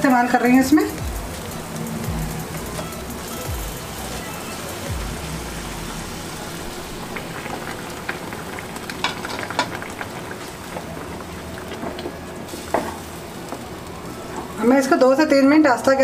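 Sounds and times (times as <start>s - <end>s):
curry sizzling and bubbling: 0.0s - 16.0s.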